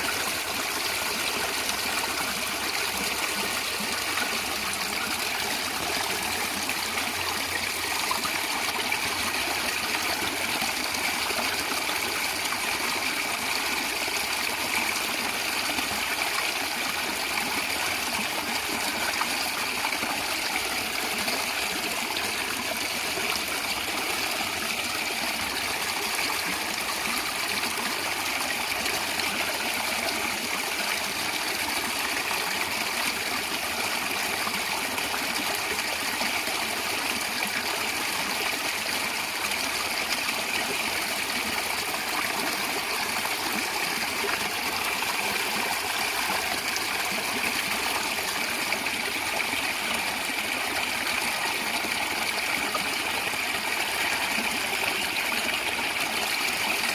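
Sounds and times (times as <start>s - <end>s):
stream flowing over stones: 0.0s - 56.9s.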